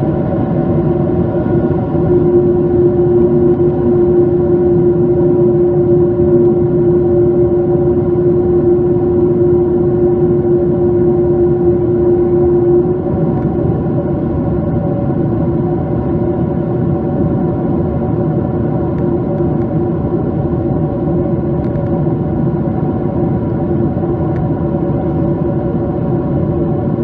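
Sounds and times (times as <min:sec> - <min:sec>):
jet engine and airflow noise: 0:00.0 - 0:27.0
steady hum: 0:00.0 - 0:27.0.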